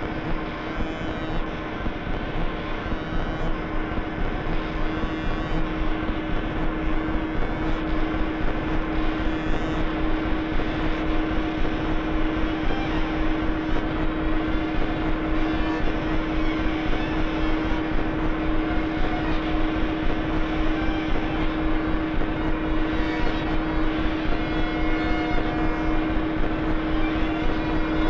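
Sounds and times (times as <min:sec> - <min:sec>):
low held drone tone: 0:00.0 - 0:28.0.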